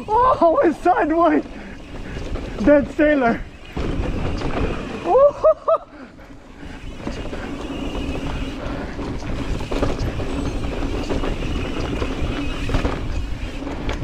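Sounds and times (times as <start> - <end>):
bike rattling and clicking: 0.0 - 14.0
bike tyre noise and wind: 0.0 - 14.0.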